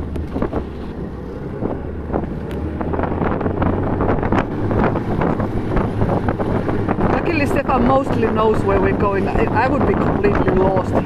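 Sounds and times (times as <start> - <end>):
snowmobile engine humming: 0.0 - 11.0
wind rushing on microphone: 0.0 - 11.0.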